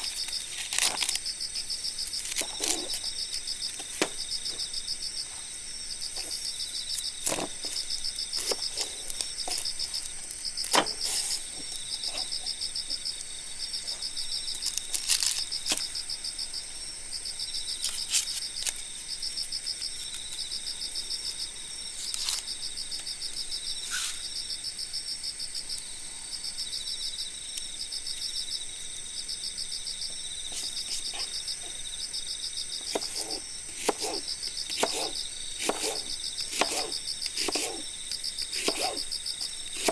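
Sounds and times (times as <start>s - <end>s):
cricket chirping: 0.0s - 39.9s
high-pitched insect hum: 0.0s - 39.9s.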